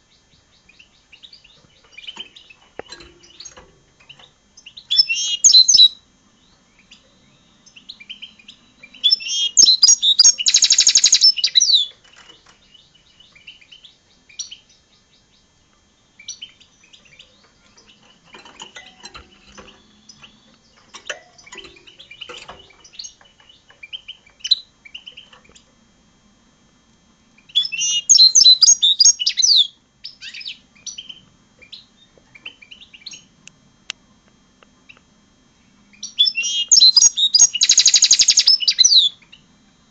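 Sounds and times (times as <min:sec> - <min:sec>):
finch twittering song: 0:00.0 - 0:25.7, 0:27.4 - 0:33.3, 0:35.9 - 0:39.5
soft bird chirps: 0:00.0 - 0:25.7, 0:27.4 - 0:33.4, 0:35.8 - 0:39.5.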